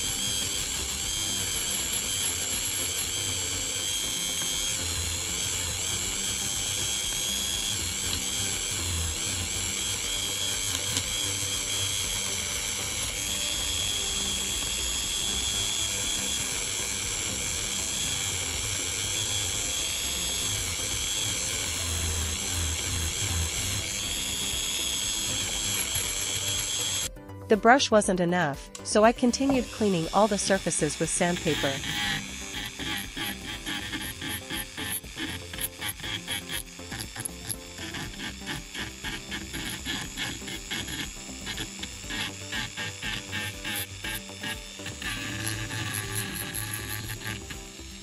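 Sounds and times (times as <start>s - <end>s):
rotary tool whine with scrubbing: 0.0s - 27.1s, 29.3s - 48.0s
background music: 0.0s - 48.0s.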